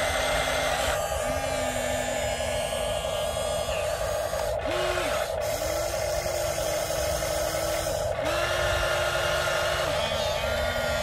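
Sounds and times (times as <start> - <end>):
electric motors whirring: 0.0 - 11.0
low motor tone: 0.0 - 11.0.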